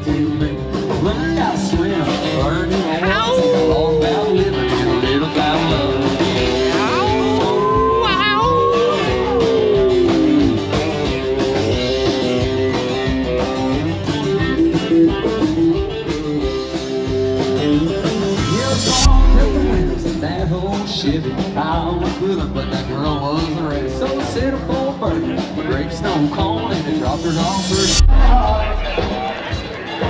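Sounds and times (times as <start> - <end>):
blues-rock music with singing: 0.0 - 30.0.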